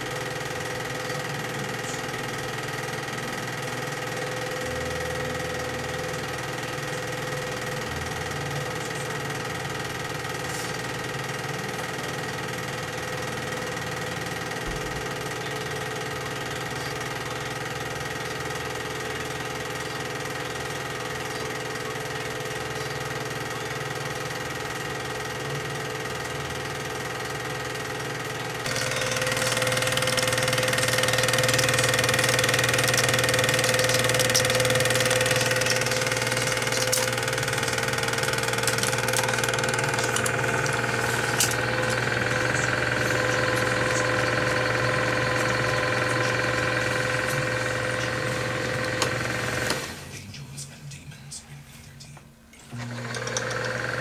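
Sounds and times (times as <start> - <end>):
film projector whirring: 0.0 - 50.5, 52.4 - 54.0.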